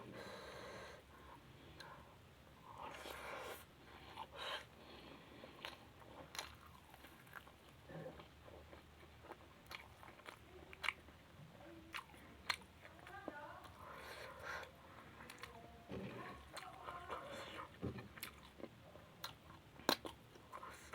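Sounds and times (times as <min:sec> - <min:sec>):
person chewing food: 0:00.0 - 0:20.9.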